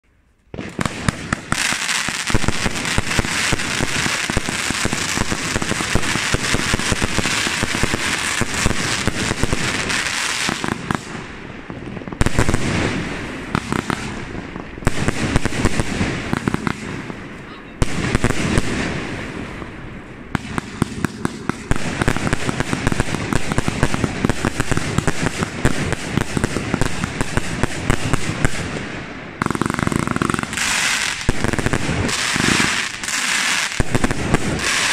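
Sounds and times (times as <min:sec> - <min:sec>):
fireworks hiss and crackle: 0:00.4 - 0:34.9
fireworks shots and bursting shells: 0:00.5 - 0:34.9.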